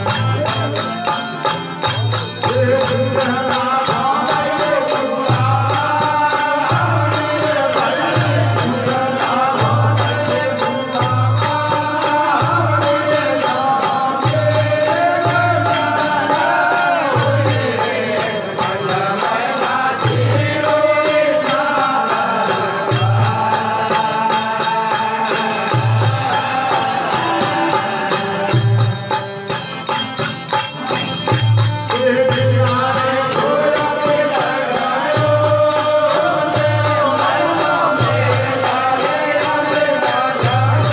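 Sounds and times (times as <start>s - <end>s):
accompanying instruments: 0.0s - 40.9s
person singing devotional song: 0.0s - 40.9s.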